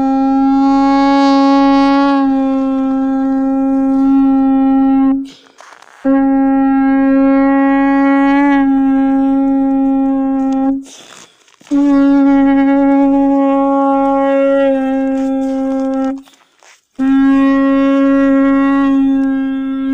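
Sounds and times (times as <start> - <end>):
conch-shell trumpet blasts: 0.0 - 19.9.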